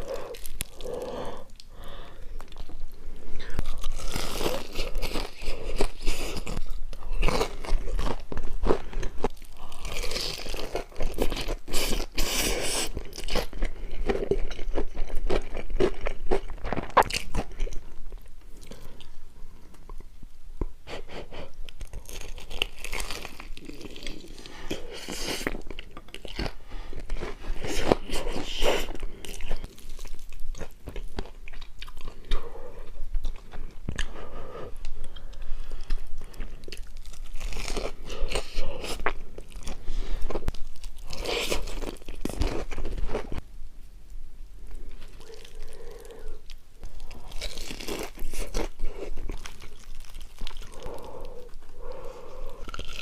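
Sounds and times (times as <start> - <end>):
person crunching and chewing food: 0.0 - 20.2, 20.9 - 43.4, 44.6 - 53.0.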